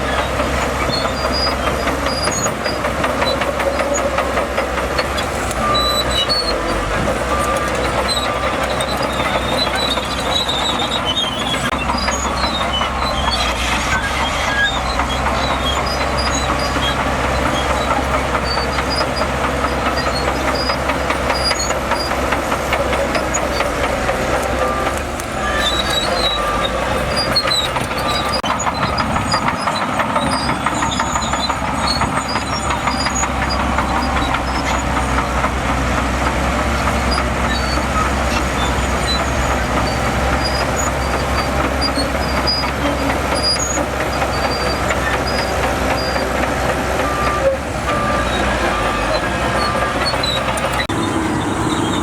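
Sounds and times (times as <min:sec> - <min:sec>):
bulldozer diesel engine rattling: 0:00.0 - 0:52.0.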